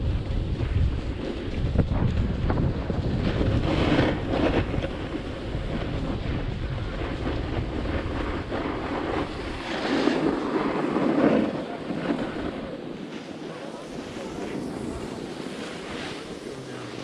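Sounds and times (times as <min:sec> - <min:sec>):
snowboard scraping on snow: 0:00.0 - 0:17.0
wind buffeting microphone: 0:00.0 - 0:17.0.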